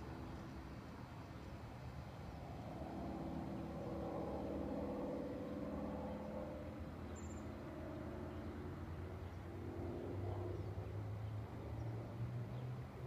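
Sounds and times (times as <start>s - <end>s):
distant airplane engine droning: 0.0s - 13.0s.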